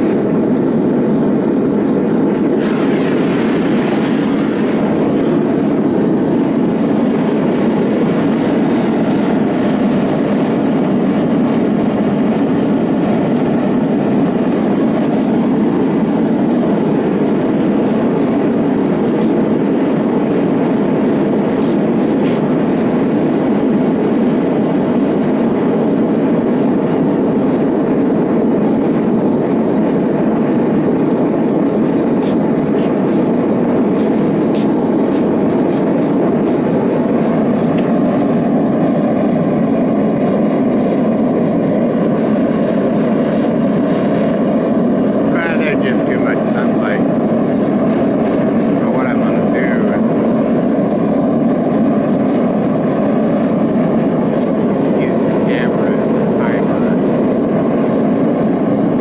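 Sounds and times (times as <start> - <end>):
propane flame roaring: 0.0 - 59.0.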